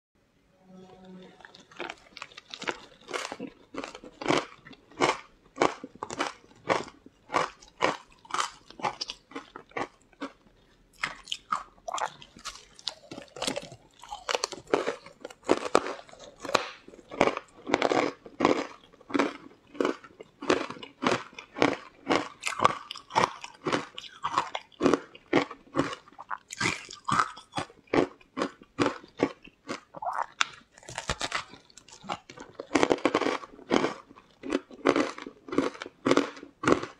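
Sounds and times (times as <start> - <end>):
person chewing crunchy food: 1.3 - 36.9.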